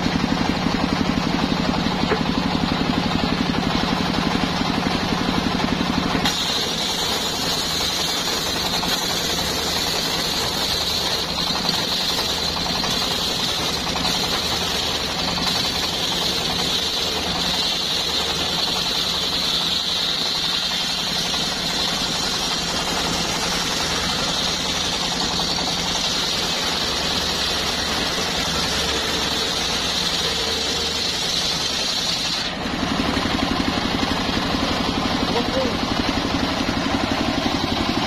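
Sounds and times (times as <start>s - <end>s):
engine-driven wood saw whining: 0.0s - 38.0s
rough low engine: 0.0s - 38.0s.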